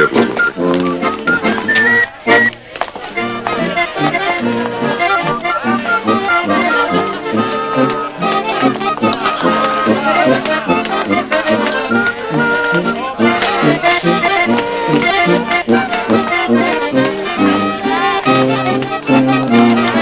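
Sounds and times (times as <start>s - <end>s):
accordion folk dance tune: 0.0s - 20.0s.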